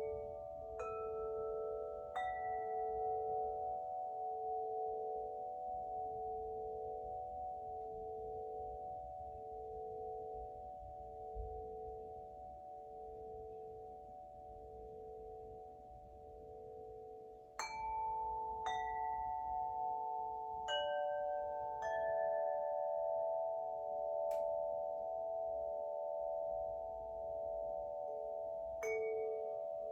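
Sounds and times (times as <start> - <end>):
wind chime ringing: 0.0 - 29.9.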